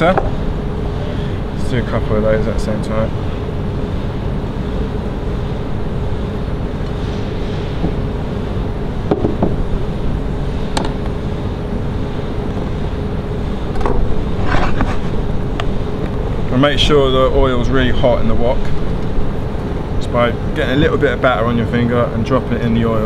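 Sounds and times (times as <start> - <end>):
faint hum: 0.0 - 23.0
low rumbling: 0.0 - 23.0.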